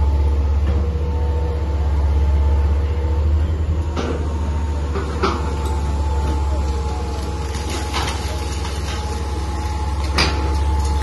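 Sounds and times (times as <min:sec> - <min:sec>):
excavator diesel engine whining: 0:00.0 - 0:11.0.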